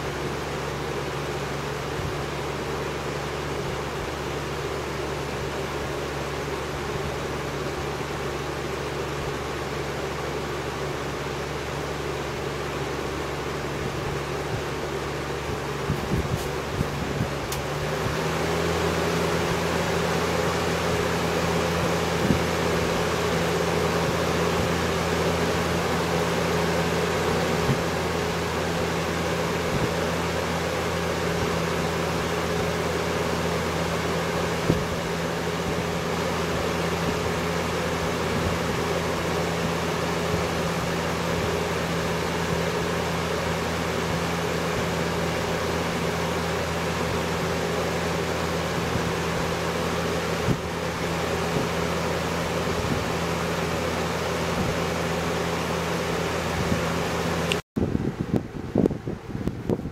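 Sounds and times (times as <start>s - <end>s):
box fan running: 0.0s - 59.9s.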